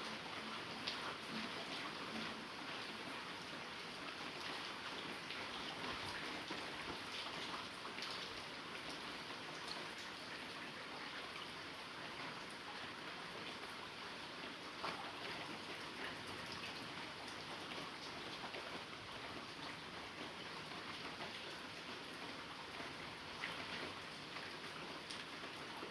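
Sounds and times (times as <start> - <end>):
raindrops pattering on a surface: 0.0 - 25.9.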